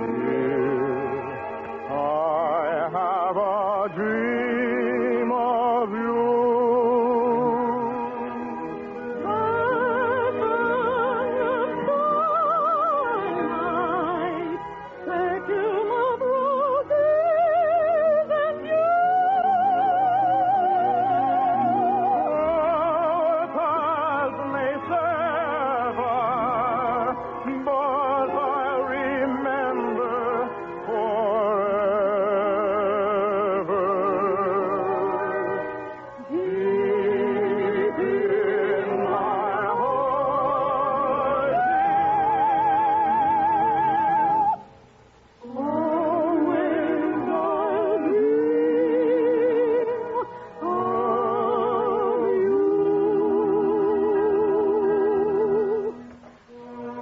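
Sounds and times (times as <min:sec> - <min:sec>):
person singing with vibrato: 0:00.0 - 0:57.0.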